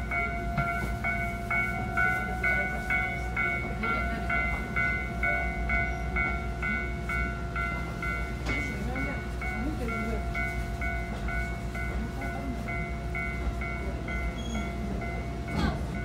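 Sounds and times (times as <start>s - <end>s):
level crossing bell clanging: 0.0s - 16.0s
train rumbling: 0.0s - 16.0s.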